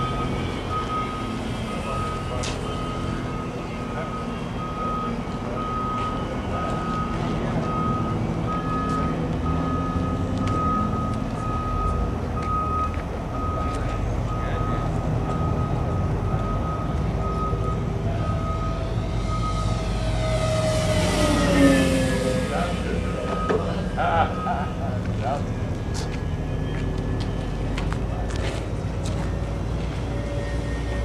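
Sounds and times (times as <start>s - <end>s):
backup alarm beeping: 0.0s - 27.7s
heavy diesel equipment rumble: 0.0s - 31.0s.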